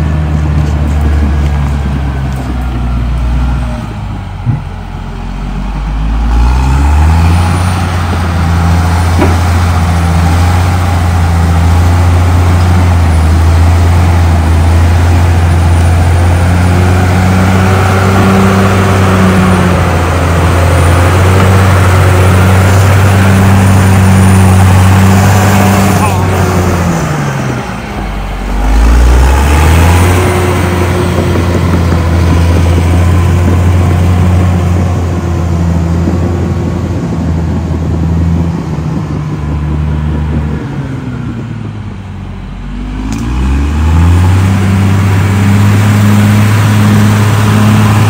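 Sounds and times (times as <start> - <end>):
bulldozer diesel engine: 0.0 - 48.0.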